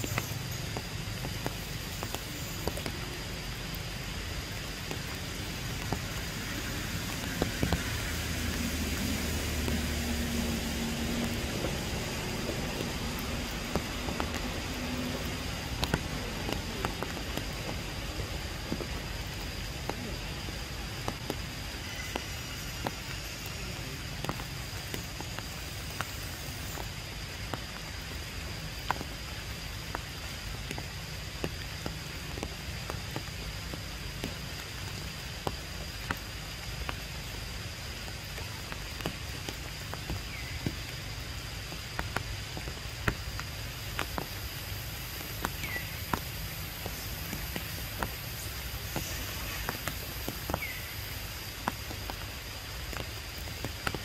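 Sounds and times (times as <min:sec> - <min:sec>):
drops tapping on leaves: 0:00.0 - 0:54.0
rain falling through foliage: 0:00.0 - 0:54.0.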